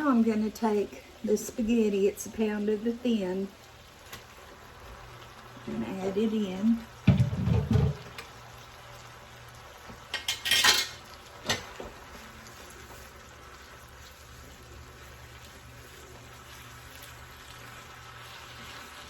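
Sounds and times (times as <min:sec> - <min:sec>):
pan sizzling faintly: 0:00.0 - 0:19.0.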